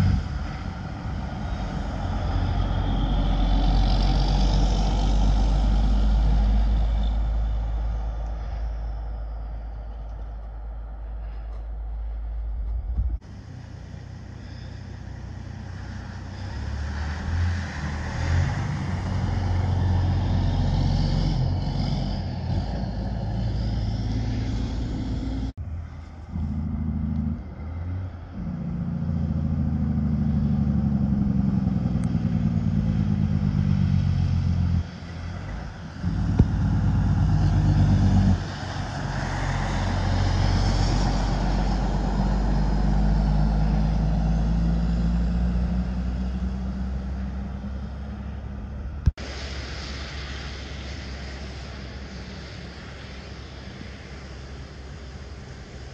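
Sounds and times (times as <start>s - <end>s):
diesel truck engine passing: 0.0s - 55.9s.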